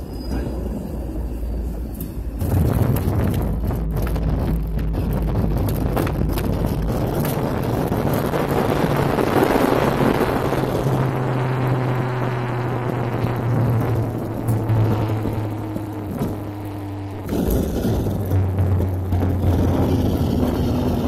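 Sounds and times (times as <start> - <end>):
jet engines and wheels rumbling: 0.0 - 21.0
low cabin hum: 0.0 - 21.0.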